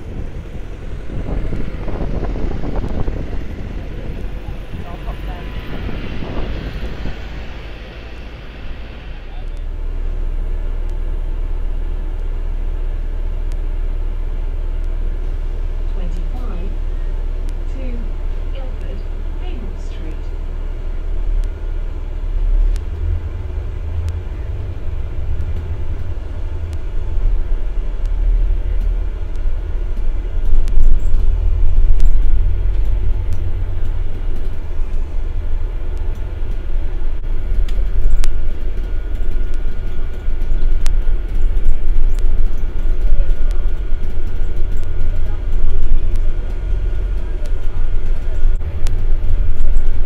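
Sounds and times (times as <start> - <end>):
bus engine rumble: 0.0 - 50.0.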